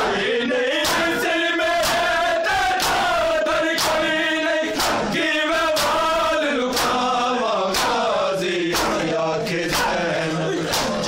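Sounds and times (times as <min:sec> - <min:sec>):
men chanting a lament: 0:00.0 - 0:11.0.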